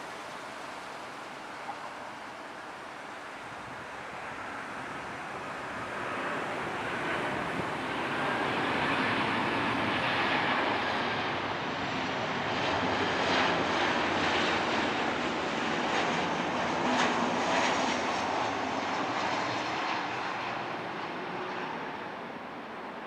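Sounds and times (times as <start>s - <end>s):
jet airliner approaching: 0.0s - 23.0s.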